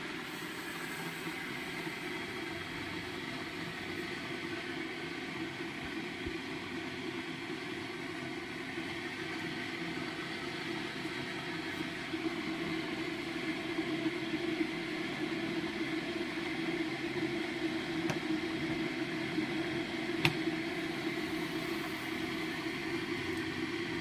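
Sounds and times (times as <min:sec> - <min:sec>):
electric heater humming: 0:00.0 - 0:24.0.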